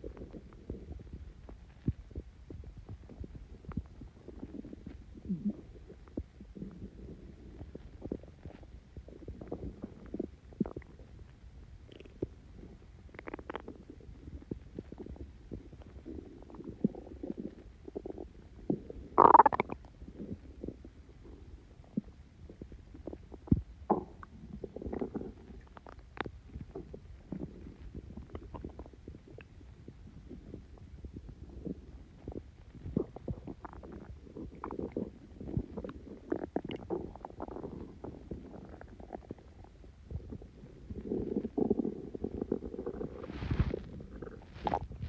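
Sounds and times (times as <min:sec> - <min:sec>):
stomach gurgling: 0:00.0 - 0:45.0.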